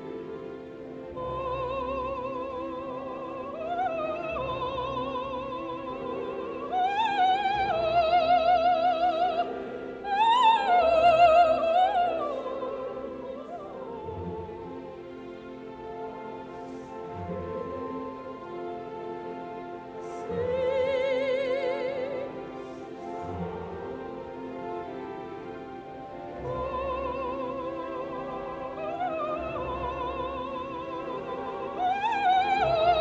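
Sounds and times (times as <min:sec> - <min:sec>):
orchestral accompaniment: 0:00.0 - 0:33.0.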